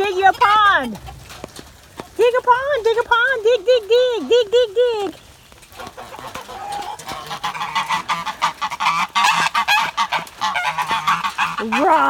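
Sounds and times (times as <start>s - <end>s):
geese honking: 0.0s - 1.1s, 2.2s - 12.0s.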